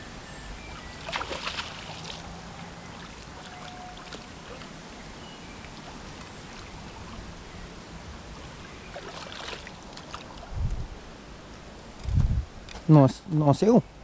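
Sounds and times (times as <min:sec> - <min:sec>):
creek water flowing: 0:00.5 - 0:11.8.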